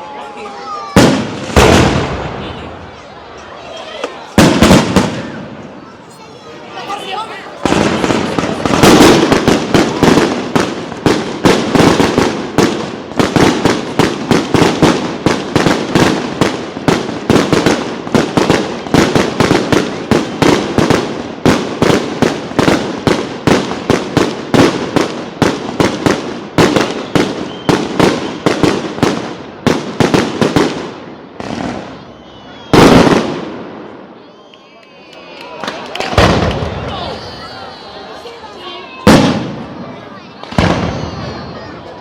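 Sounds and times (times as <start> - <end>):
fireworks banging: 0.6 - 42.0.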